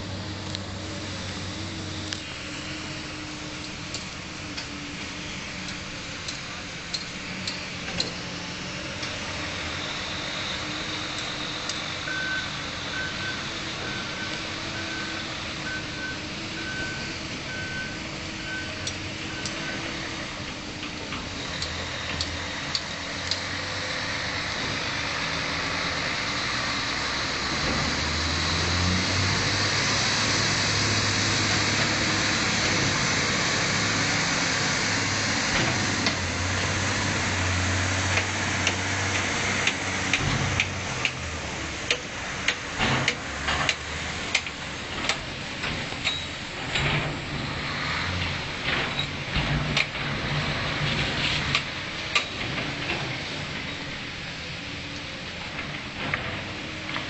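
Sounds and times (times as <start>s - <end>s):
diesel excavator engine: 0.0s - 57.0s.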